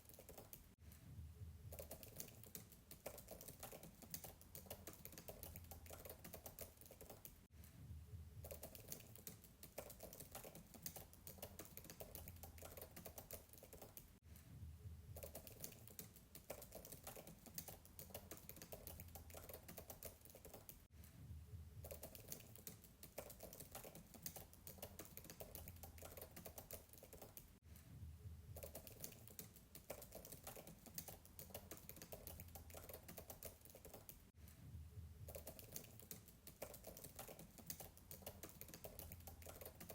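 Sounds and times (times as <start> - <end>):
fast typing on laptop keyboard: 0.0 - 0.8, 1.7 - 7.5, 8.4 - 14.2, 15.2 - 20.9, 21.8 - 27.6, 28.6 - 34.3, 35.3 - 39.9.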